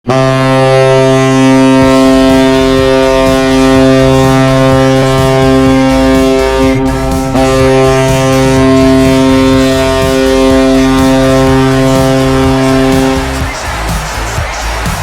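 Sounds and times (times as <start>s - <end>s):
goal horn blast: 0.0s - 15.0s.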